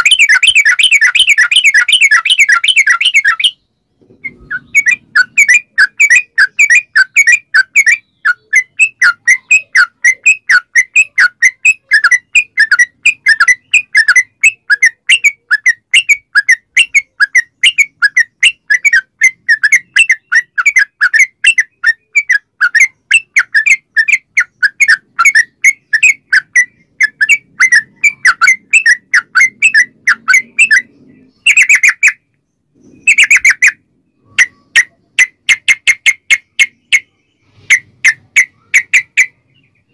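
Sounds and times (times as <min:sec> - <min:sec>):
bulbul singing chirping notes: 0:00.0 - 0:39.9.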